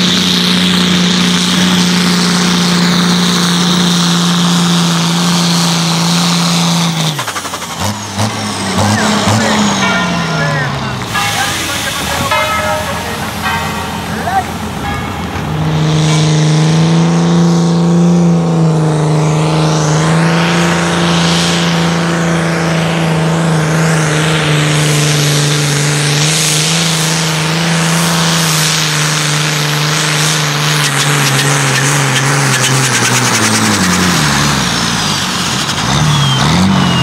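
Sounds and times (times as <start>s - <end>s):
diesel tractor engine at high revs: 0.0s - 37.0s.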